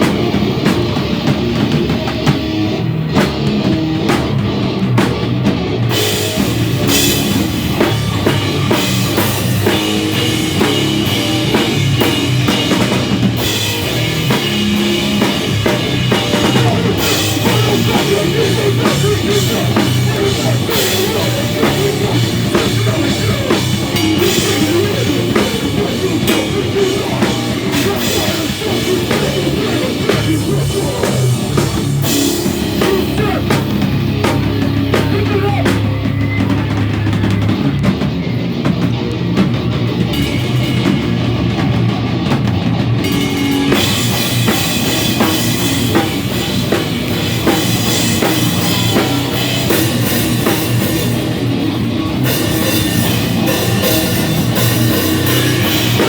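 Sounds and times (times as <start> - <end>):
drum kit: 0.0 - 56.0
guitar: 0.0 - 56.0
rock band playing live: 0.0 - 56.0.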